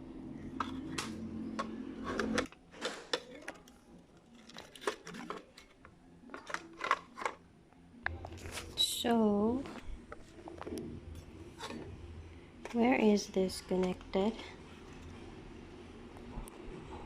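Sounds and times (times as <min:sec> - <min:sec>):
steady low hum: 0:00.0 - 0:04.4, 0:07.4 - 0:17.0.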